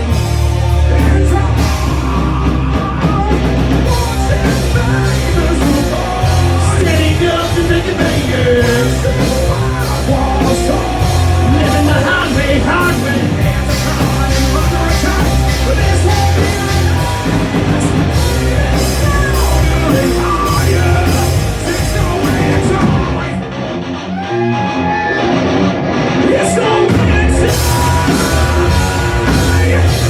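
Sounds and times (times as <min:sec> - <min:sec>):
person singing: 0:00.0 - 0:23.5, 0:26.3 - 0:30.0
rock band playing live: 0:00.0 - 0:30.0.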